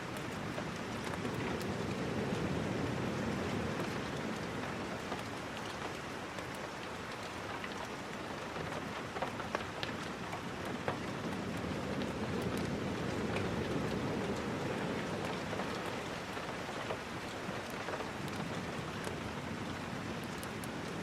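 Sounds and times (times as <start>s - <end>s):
sharp raindrop ticks: 0.0s - 21.0s
steady rain falling: 0.0s - 21.0s.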